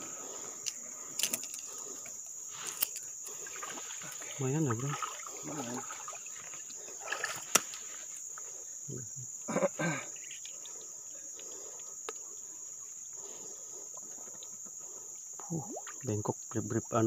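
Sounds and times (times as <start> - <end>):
insects shrilling: 0.0 - 17.0.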